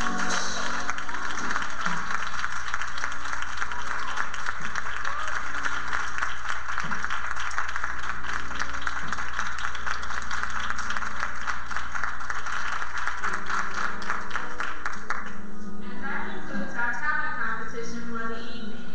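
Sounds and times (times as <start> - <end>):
faint music: 0.0 - 6.0, 8.3 - 18.9
audience applauding: 0.0 - 15.5.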